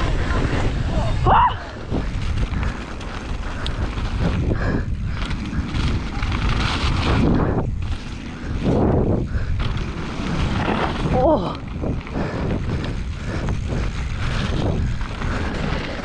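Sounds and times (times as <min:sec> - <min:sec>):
bike tyre rumble on trail: 0:00.0 - 0:16.0
wind rushing over microphone: 0:00.0 - 0:16.0.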